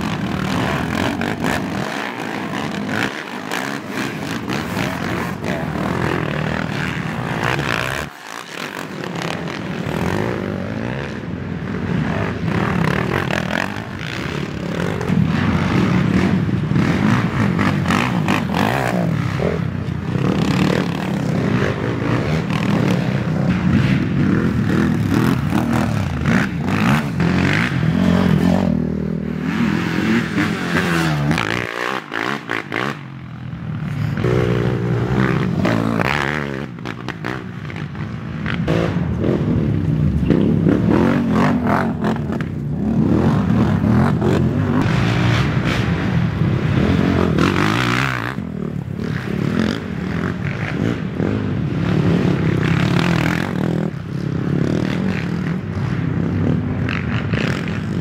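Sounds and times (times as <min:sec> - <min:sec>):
atv engines revving: 0:00.0 - 0:58.0.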